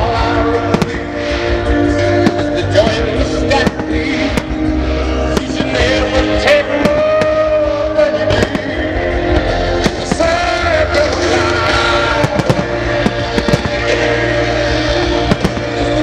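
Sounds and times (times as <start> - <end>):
musical theatre music: 0.0 - 16.0
fireworks bursting: 0.1 - 16.0.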